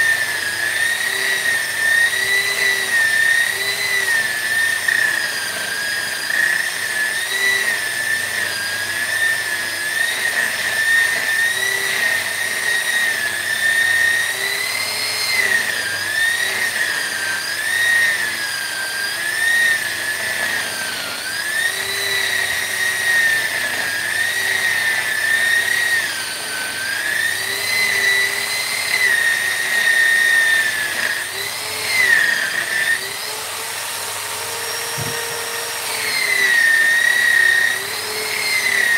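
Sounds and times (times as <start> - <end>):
rotary carving tool whining on wood: 0.0 - 38.9.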